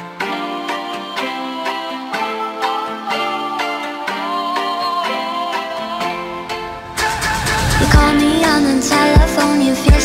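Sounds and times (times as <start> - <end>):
pop music: 0.0 - 10.0.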